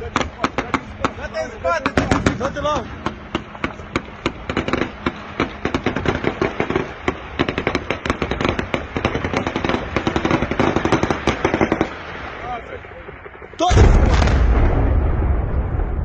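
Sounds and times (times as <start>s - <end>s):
anti-aircraft gunfire cracks: 0.0s - 12.4s, 13.0s - 16.0s.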